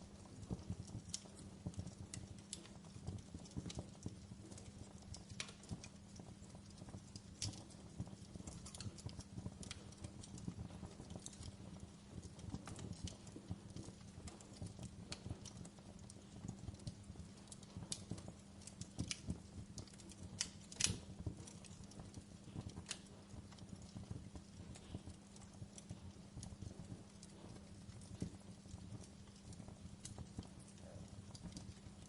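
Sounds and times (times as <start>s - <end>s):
low rumble of flames: 0.0s - 32.0s
sharp snaps and pops: 0.0s - 32.0s
wood fire crackling: 0.0s - 32.0s.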